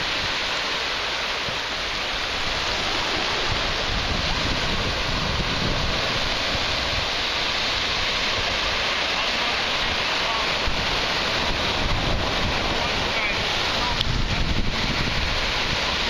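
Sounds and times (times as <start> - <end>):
surf washing over shore: 0.0 - 16.0
wind rumbling on microphone: 0.0 - 16.0.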